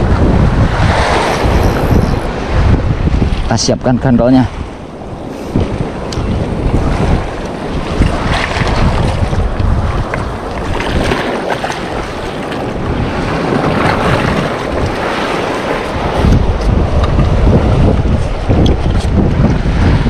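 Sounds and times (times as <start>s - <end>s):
sea waves on shore: 0.0s - 20.0s
wind buffeting microphone: 0.0s - 20.0s.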